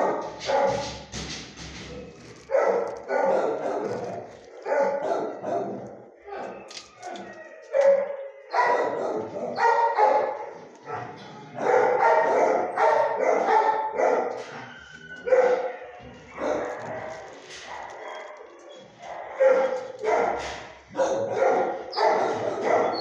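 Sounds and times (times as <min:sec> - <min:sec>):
dogs barking: 0:00.0 - 0:01.2, 0:01.8 - 0:23.0.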